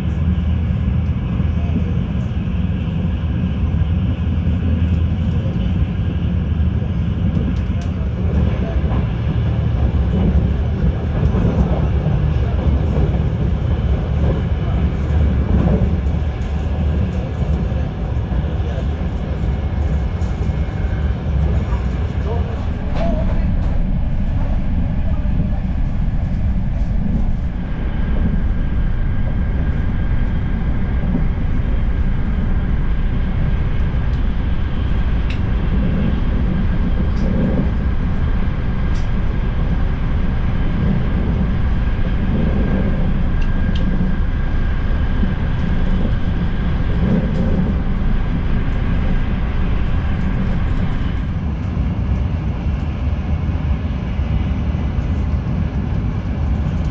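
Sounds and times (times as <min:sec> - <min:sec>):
train running rumble: 0:00.0 - 0:56.9.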